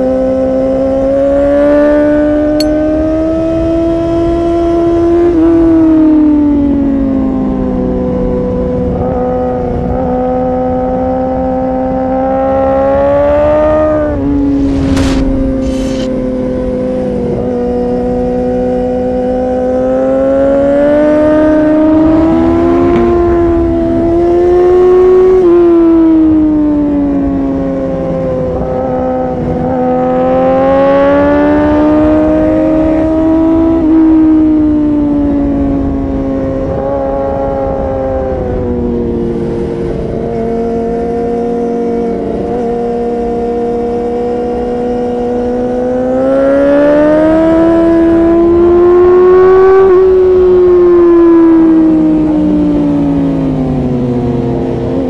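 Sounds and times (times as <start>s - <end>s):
motorcycle engine revving: 0.0s - 5.9s, 7.8s - 55.0s.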